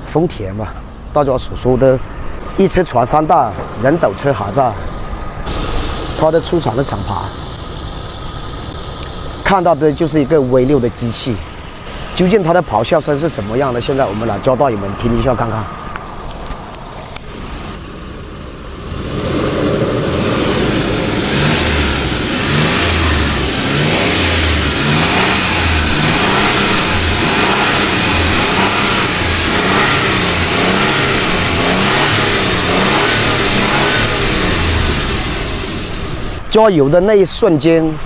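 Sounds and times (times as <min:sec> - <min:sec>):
engine revving: 0:02.9 - 0:16.1, 0:17.2 - 0:36.5.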